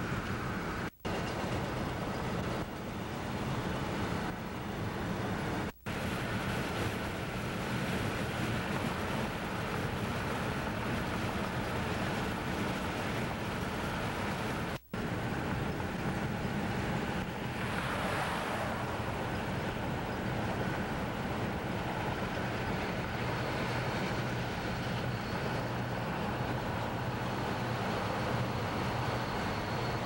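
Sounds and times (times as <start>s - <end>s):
road noise: 0.0s - 30.0s
rushing wind: 0.0s - 30.0s.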